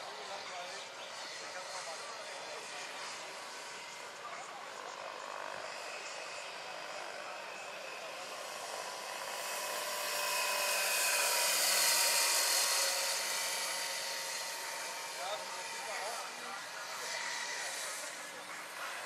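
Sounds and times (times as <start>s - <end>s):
model helicopter flying past: 0.0s - 19.0s.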